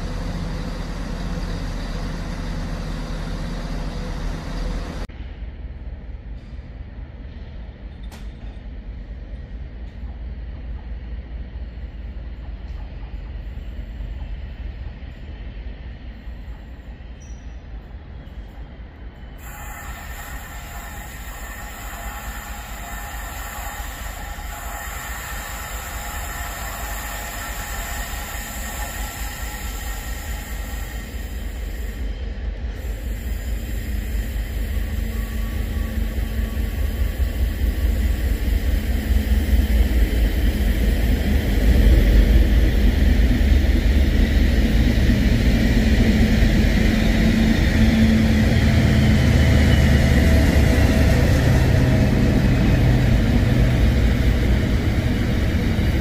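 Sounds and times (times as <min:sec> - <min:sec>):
diesel locomotive engine: 0:00.0 - 0:56.0
train wheels rumbling: 0:00.0 - 0:56.0.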